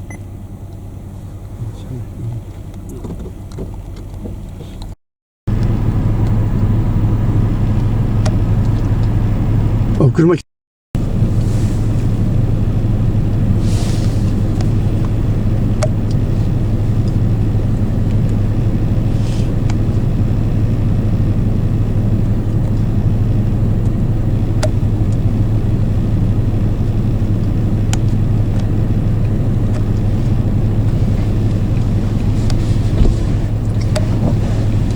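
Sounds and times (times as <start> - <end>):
vehicle engine idling: 0.0 - 10.4, 11.0 - 34.9.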